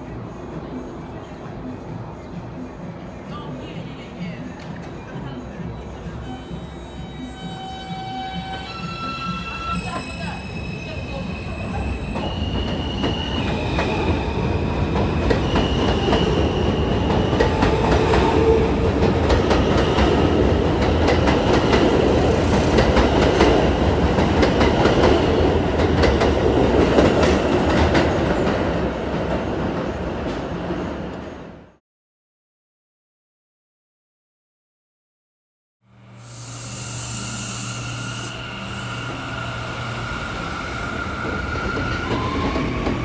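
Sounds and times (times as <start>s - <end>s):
high train whine: 0.0s - 31.8s, 35.8s - 43.0s
subway train wheels clicking: 3.4s - 31.6s, 36.0s - 43.0s.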